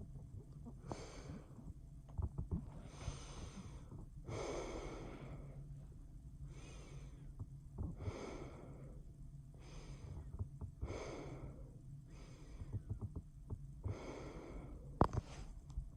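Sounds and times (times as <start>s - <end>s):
humidifier humming: 0.0s - 15.9s
slow soft breathing: 0.5s - 1.8s, 2.6s - 13.2s, 13.8s - 15.7s.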